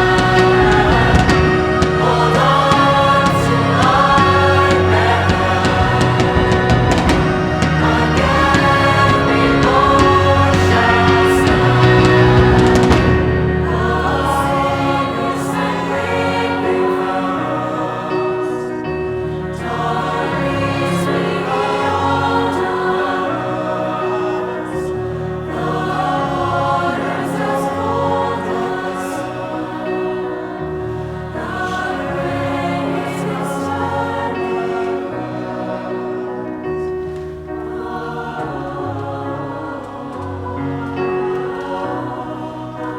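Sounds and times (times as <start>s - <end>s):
instrumental accompaniment: 0.0s - 42.9s
youth choir singing chords: 0.0s - 42.9s.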